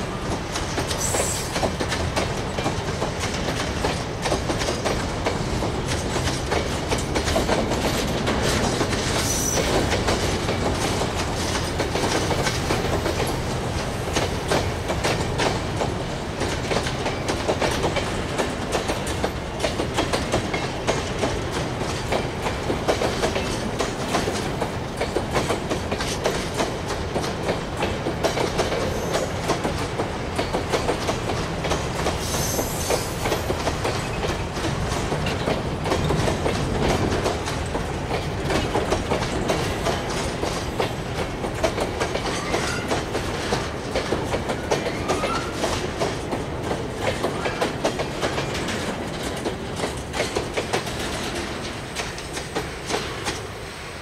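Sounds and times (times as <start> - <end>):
freight train rumbling past: 0.0 - 54.0
wheels clattering over rail joints: 0.3 - 53.6.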